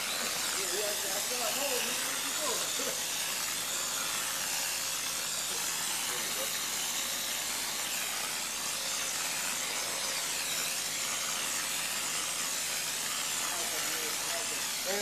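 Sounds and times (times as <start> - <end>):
compressed air spray gun hissing: 0.0 - 15.0.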